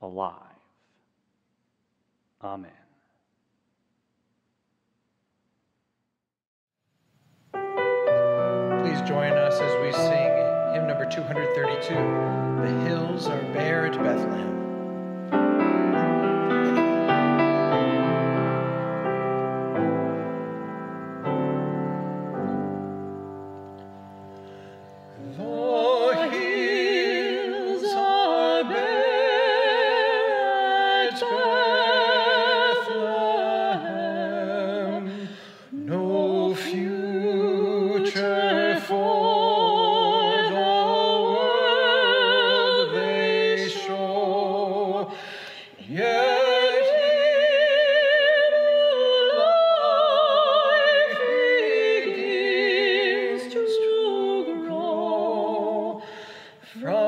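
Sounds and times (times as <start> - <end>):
congregation singing a hymn: 7.8 - 23.3, 25.0 - 57.0.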